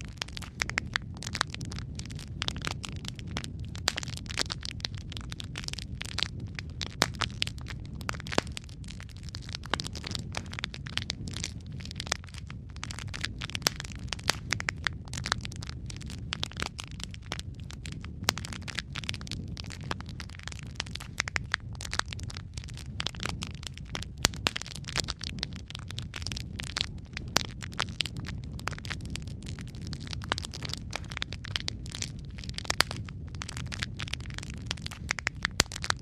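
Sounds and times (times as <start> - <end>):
fire popping and snapping: 0.0 - 36.0
low rumble of burning: 0.0 - 36.0.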